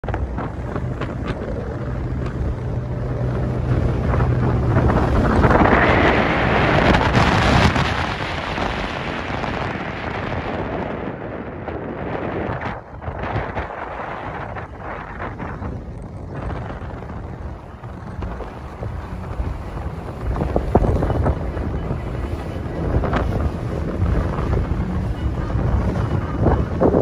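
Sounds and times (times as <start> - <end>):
boat engine hum: 0.0 - 27.0
rushing water: 0.0 - 27.0
wind buffeting microphone: 0.0 - 27.0.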